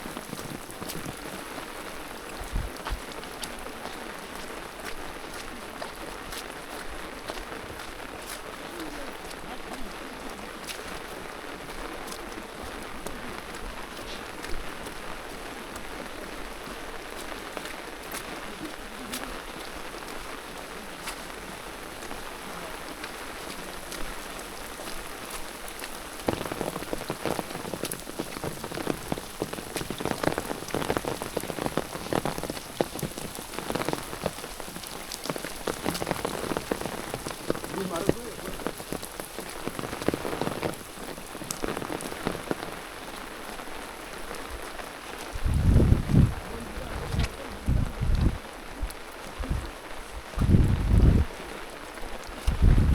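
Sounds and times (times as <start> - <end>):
rain patter: 0.0 - 52.9
raindrops ticking: 0.0 - 52.9.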